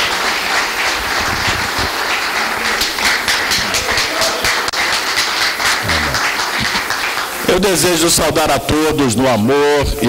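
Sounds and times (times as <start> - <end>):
congregation applauding: 0.0 - 8.1.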